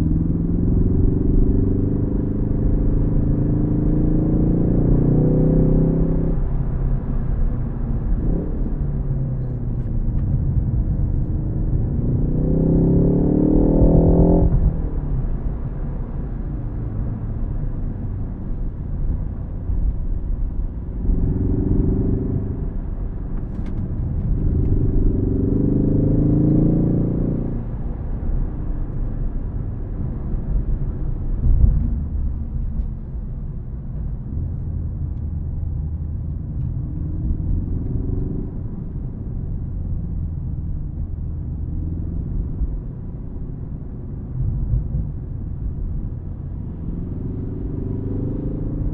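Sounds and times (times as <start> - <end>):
car engine accelerating: 0.0 - 48.9
tyre and road noise: 0.0 - 48.9.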